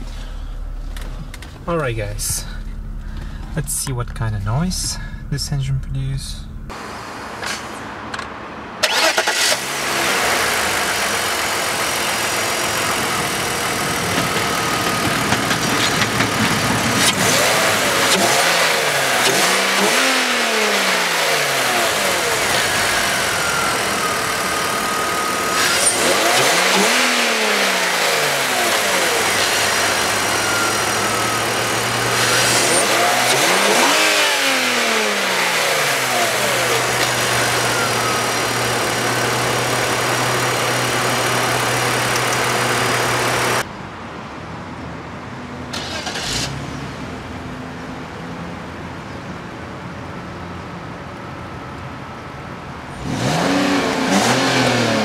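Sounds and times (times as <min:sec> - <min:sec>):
car engine revving: 0:00.0 - 0:43.7, 0:52.9 - 0:55.0.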